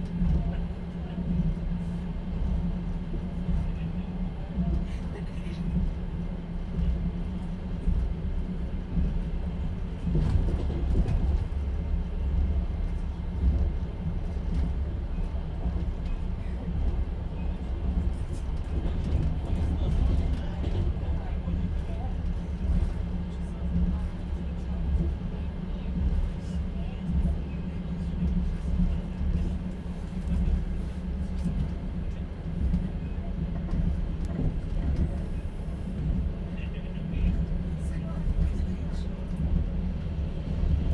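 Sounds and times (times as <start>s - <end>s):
train running gear rumble: 0.0s - 40.9s.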